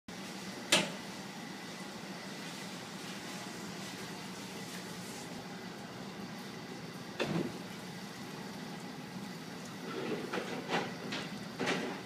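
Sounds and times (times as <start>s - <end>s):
dishwasher running hiss: 0.1s - 12.0s.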